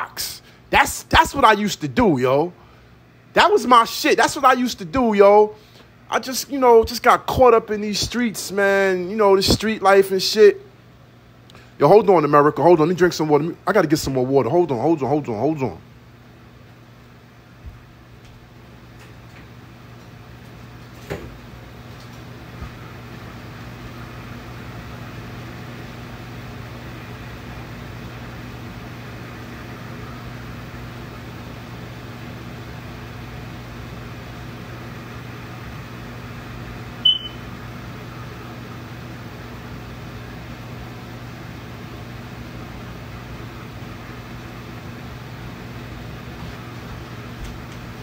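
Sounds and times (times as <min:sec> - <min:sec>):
air conditioner humming: 0:00.0 - 0:48.0.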